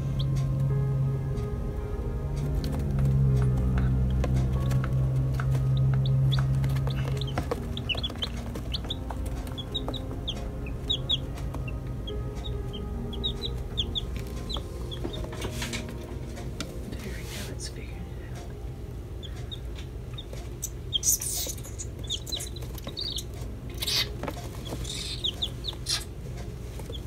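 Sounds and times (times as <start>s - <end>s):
chicks peeping: 0.0s - 0.7s, 2.4s - 16.7s, 19.1s - 27.0s.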